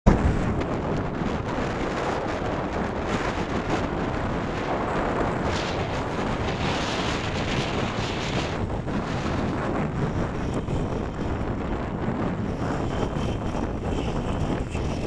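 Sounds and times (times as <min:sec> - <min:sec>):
wind buffeting microphone: 0:00.0 - 0:15.0
vehicle and road noise: 0:00.1 - 0:15.0.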